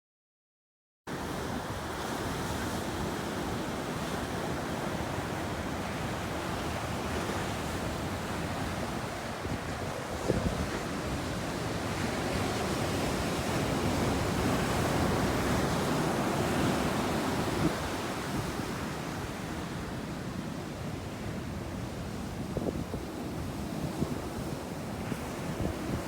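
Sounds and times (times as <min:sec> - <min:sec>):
ocean waves breaking: 0:01.1 - 0:26.0.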